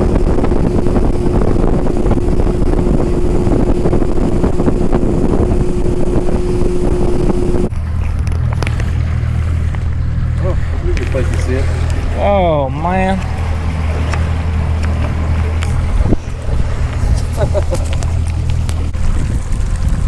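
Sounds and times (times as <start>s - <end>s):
outboard motor running: 0.0s - 20.0s
rushing water: 0.0s - 20.0s
wind buffeting microphone: 0.0s - 20.0s.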